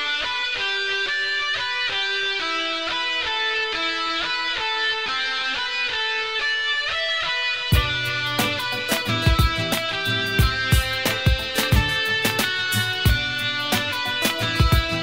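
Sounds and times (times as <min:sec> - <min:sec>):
guitar picking a melody: 0:00.0 - 0:15.0.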